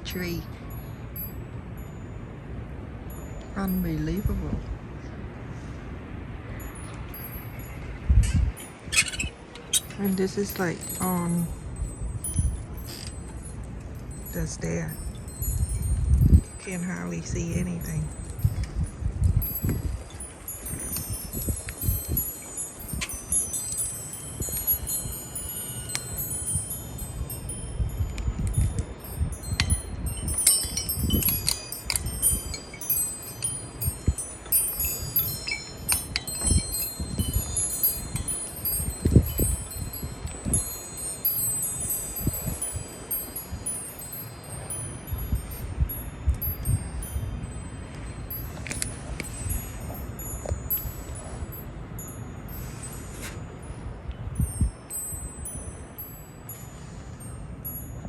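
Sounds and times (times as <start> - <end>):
metal wind chime tinkling: 0.0 - 4.8, 6.5 - 58.0
wind rumbling on microphone: 0.0 - 58.0.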